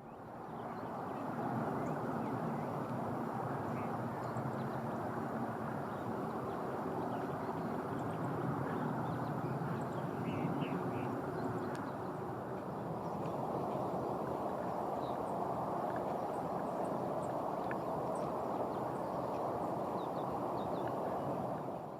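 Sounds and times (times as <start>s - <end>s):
outdoor background noise: 0.0s - 21.9s.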